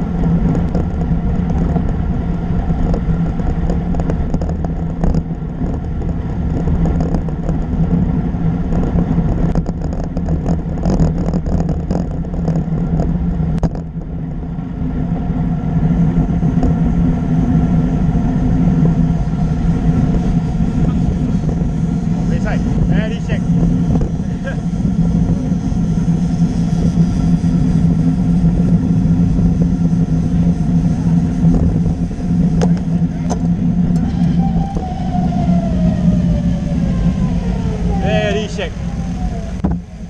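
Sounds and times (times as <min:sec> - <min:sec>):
bicycle tyres on road: 0:00.0 - 0:40.0
low hum: 0:00.0 - 0:40.0
wind noise: 0:00.0 - 0:40.0.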